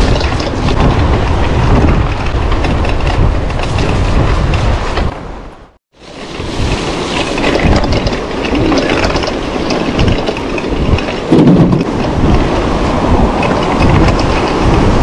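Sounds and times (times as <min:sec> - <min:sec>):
bike rattling on dirt trail: 0:00.0 - 0:05.4, 0:06.0 - 0:15.0
wind on camera microphone: 0:00.0 - 0:15.0.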